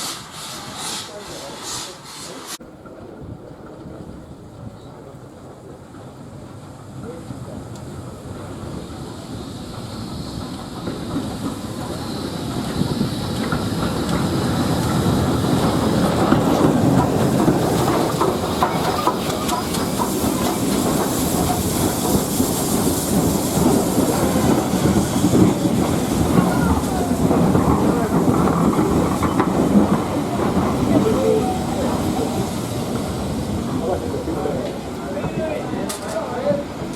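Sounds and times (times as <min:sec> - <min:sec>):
train running past: 0:00.0 - 0:36.9
wheels clattering over rail joints: 0:02.7 - 0:36.9.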